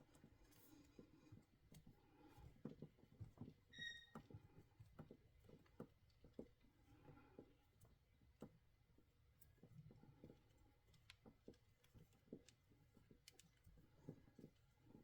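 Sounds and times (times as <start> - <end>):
faint handling clicks and taps: 0.1 - 15.0.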